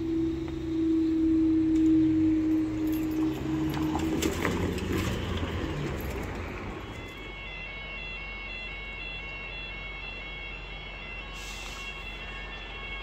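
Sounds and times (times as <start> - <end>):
crossing warning alarm tones: 0.0 - 13.0
road traffic humming: 0.0 - 13.0.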